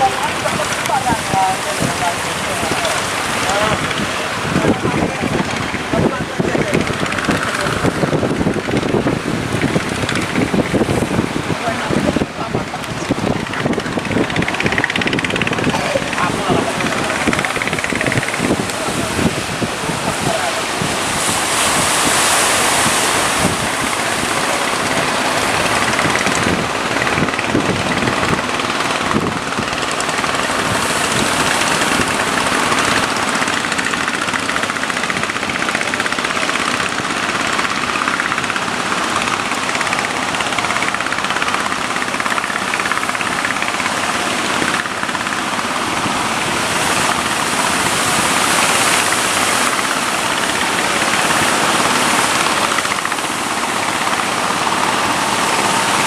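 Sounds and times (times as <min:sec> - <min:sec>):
boat engine running: 0:00.0 - 0:56.0
surf: 0:00.0 - 0:56.0
wind: 0:00.0 - 0:56.0.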